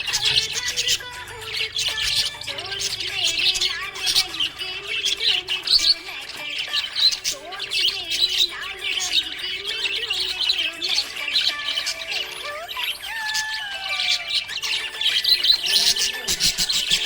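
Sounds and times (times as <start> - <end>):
budgerigar chirping: 0.0 - 17.0.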